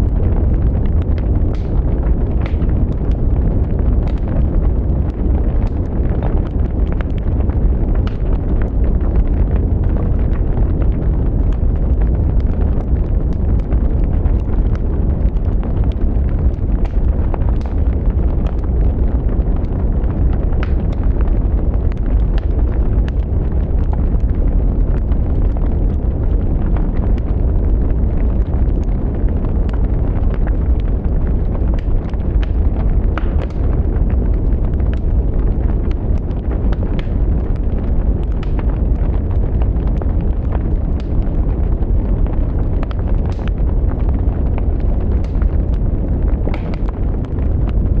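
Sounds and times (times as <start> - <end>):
low fire rumble: 0.0 - 48.0
wood fire crackling: 0.0 - 48.0.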